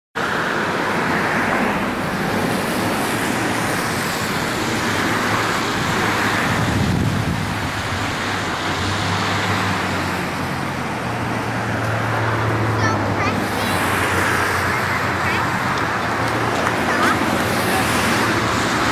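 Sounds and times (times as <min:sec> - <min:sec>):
road traffic rushing: 0:00.2 - 0:18.9.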